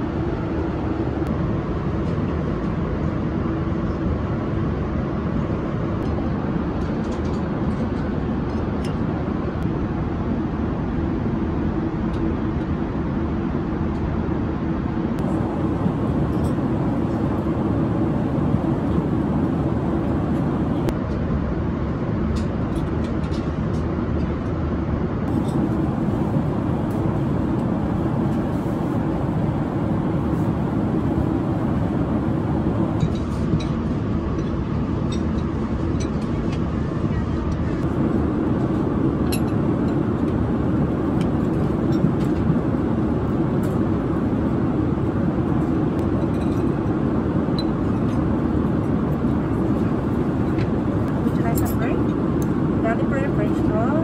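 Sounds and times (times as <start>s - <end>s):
airliner cabin airflow and engine drone: 0.0s - 54.0s.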